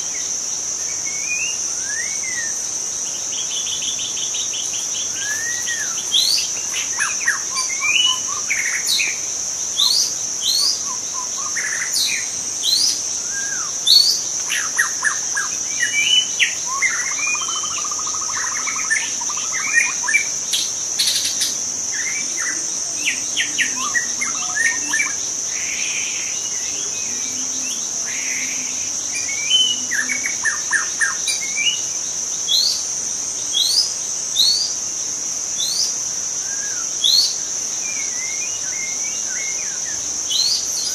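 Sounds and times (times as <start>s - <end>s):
high-pitched insect drone: 0.0s - 40.9s
bird singing whistles and trills: 0.9s - 2.7s, 3.3s - 32.9s, 33.5s - 34.8s, 35.6s - 40.9s.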